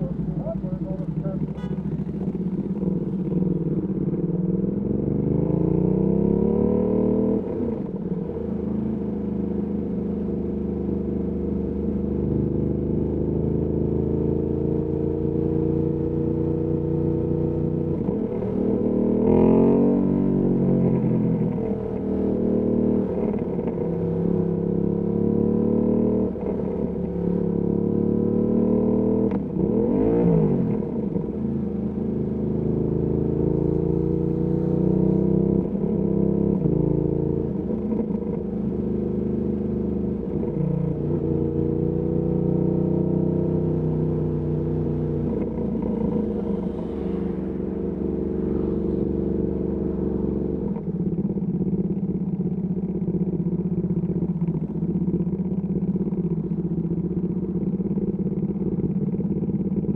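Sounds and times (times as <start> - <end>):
motorcycle engine revving: 0.0 - 8.0, 15.9 - 59.9.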